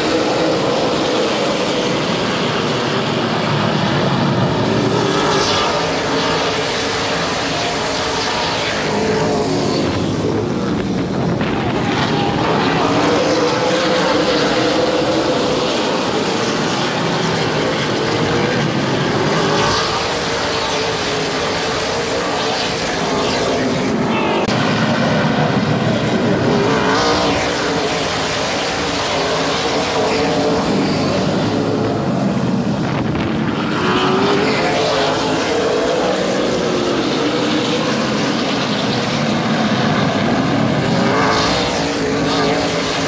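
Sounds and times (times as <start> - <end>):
race car engines passing: 0.0 - 43.0.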